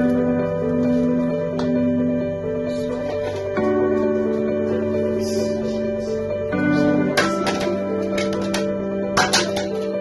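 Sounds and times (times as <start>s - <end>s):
soft instrumental guitar music: 0.0s - 10.0s.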